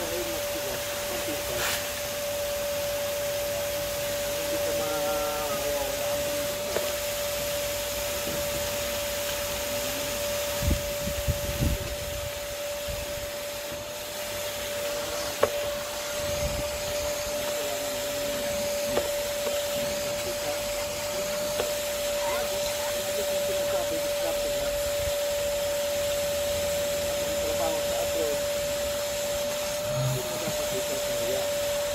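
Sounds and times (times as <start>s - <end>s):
vacuum cleaner whine: 0.0s - 31.9s.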